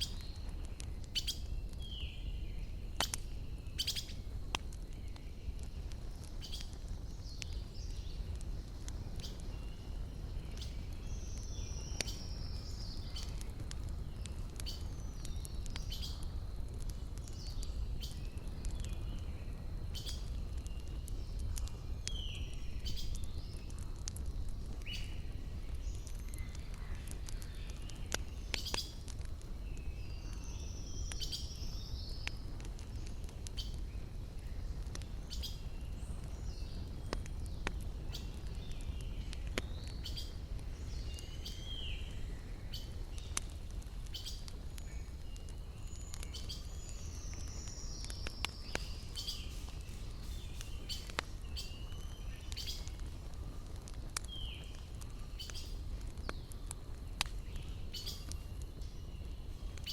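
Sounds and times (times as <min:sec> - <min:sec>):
campfire crackling: 0:00.0 - 0:59.9
small birds chirping: 0:00.0 - 0:59.9.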